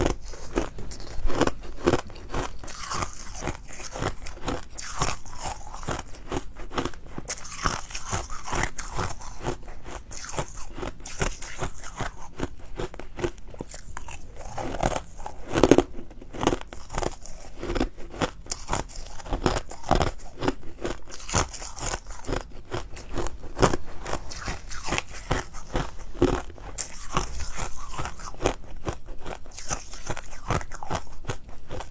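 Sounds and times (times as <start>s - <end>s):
ice being chewed: 0.0s - 31.9s.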